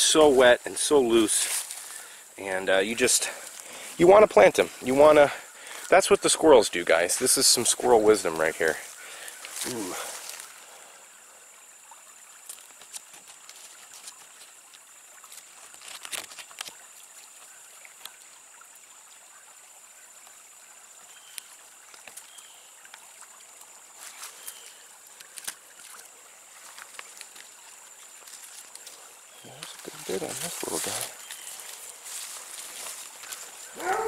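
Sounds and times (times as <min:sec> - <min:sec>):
clicks and rustles of leaves: 0:00.0 - 0:10.7, 0:12.3 - 0:18.5, 0:21.1 - 0:34.0
creek water flowing: 0:00.0 - 0:34.0.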